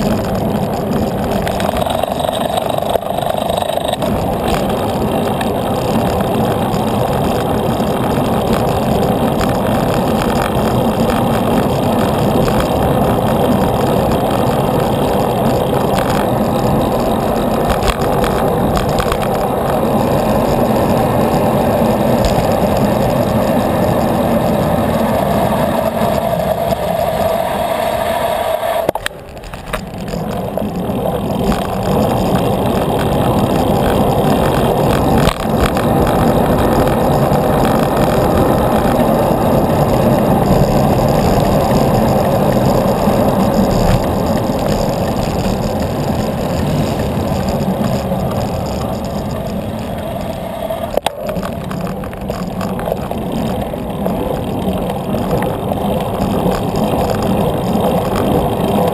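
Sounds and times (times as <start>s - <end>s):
traffic: 0.0s - 58.9s.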